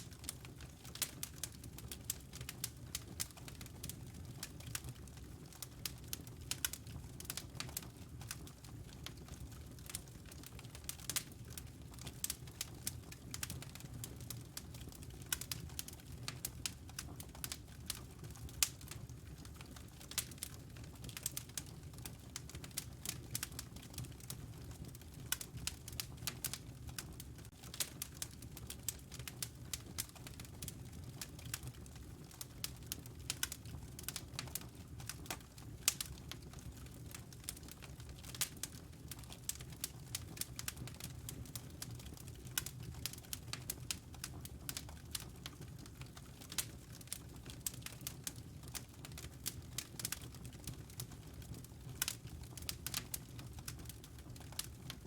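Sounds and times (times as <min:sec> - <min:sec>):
wood fire pops and snaps: 0:00.0 - 0:11.3, 0:12.0 - 0:55.0
rumble of flames: 0:00.0 - 0:55.0.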